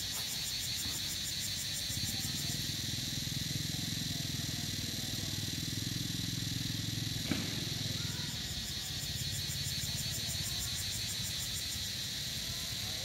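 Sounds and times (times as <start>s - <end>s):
insects trilling: 0.0s - 13.0s
small engine running: 1.8s - 13.0s.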